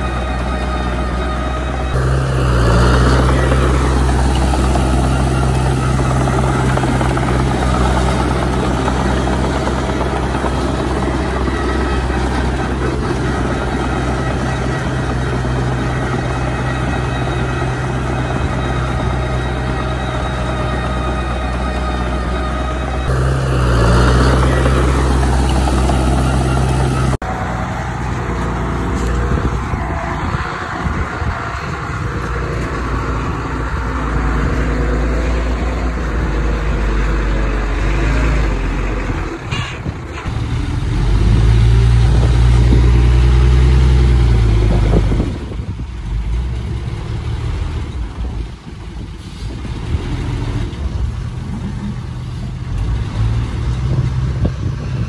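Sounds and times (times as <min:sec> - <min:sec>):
diesel machinery engine rumble: 0:00.0 - 0:55.0.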